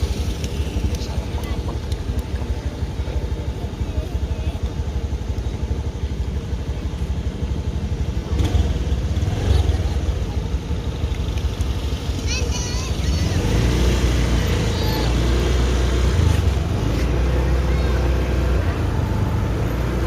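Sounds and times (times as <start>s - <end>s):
faint voices: 0.0s - 8.5s, 9.2s - 20.0s
vehicle engines passing: 0.0s - 20.0s.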